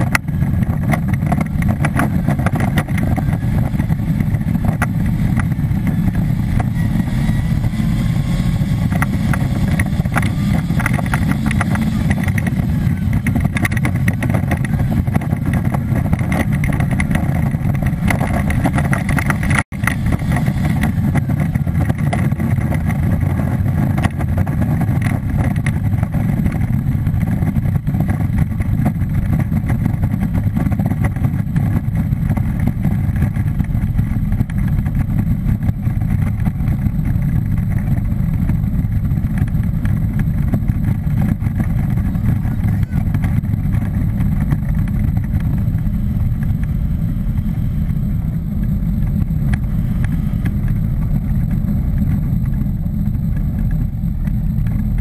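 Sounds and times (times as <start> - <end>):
car engine revving: 0.0 - 55.0
tyre noise: 0.0 - 55.0
wind noise: 0.0 - 55.0.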